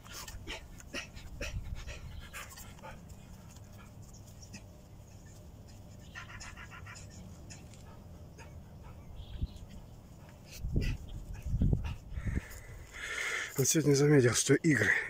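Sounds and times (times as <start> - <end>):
man panting heavily: 0.0 - 9.2, 9.9 - 13.6.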